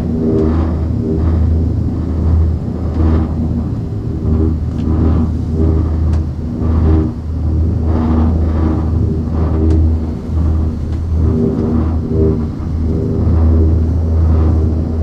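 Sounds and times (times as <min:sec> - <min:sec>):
gondola cabin rumble and hum: 0:00.0 - 0:15.0.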